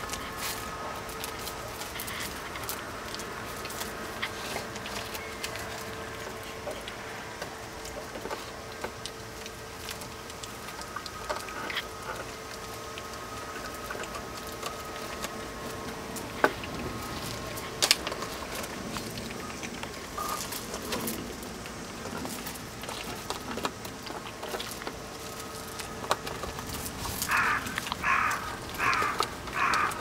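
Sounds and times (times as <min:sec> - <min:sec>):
clicks and crunches on gravel: 0:00.0 - 0:30.0
faint steady hum: 0:00.0 - 0:30.0.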